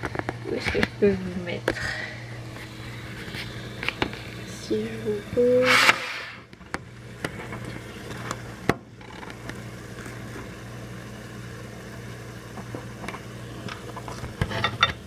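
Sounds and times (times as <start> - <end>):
tomatoes simmering in a pan: 0.0 - 15.0.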